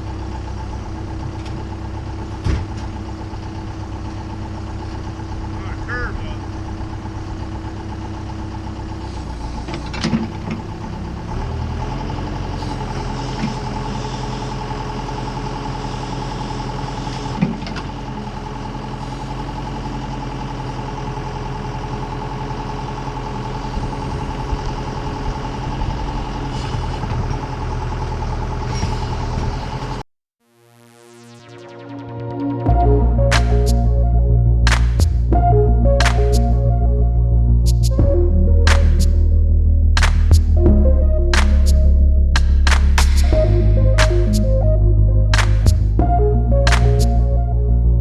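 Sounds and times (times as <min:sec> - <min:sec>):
diesel engine running: 0:00.0 - 0:30.0, 0:32.7 - 0:48.0.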